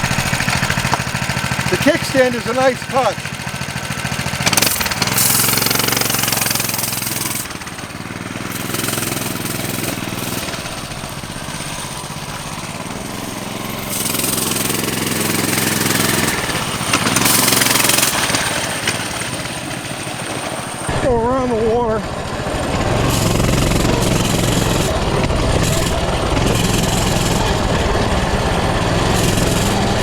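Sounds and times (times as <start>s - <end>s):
mini bike engine revving: 0.0s - 30.0s.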